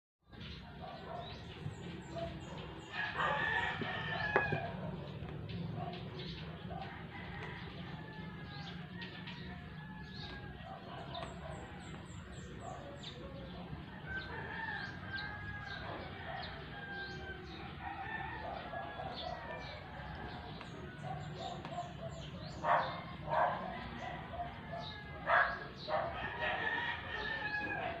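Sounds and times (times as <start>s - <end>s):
birds chirping and calling: 0.3s - 28.0s.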